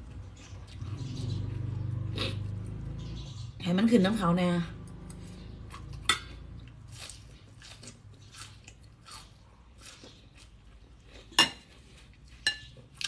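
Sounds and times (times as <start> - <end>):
chewing crunchy greens: 0.0 - 3.2, 4.7 - 13.0.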